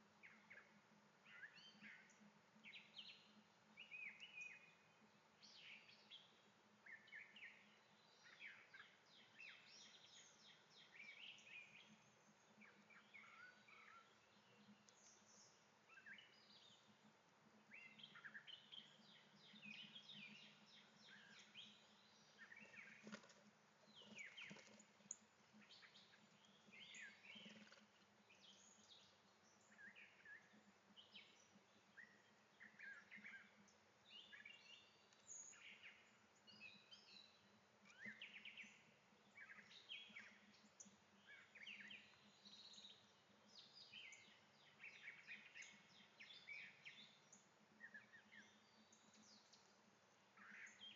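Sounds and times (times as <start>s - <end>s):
birds chirping and trilling: 0.2s - 50.9s.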